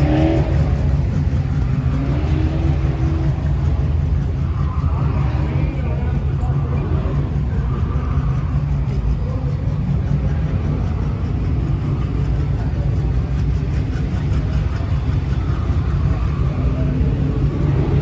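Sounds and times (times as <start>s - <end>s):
car engines idling: 0.0s - 18.0s.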